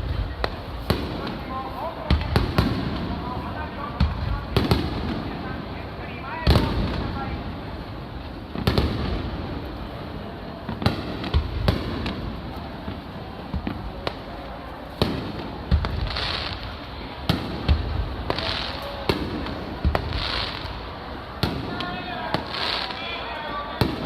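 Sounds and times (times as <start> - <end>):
fireworks bangs and booms: 0.0 - 24.0
fireworks crackling hiss: 0.0 - 24.0.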